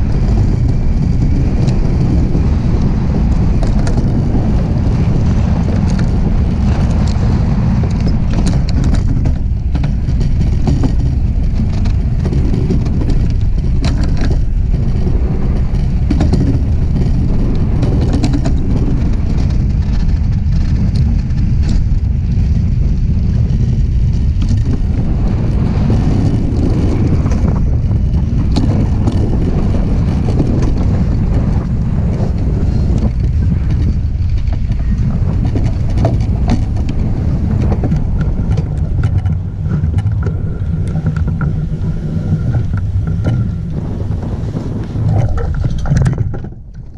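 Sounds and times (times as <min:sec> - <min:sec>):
iceboat runners rumbling over ice: 0:00.0 - 0:46.9
wind on microphone: 0:00.0 - 0:46.9.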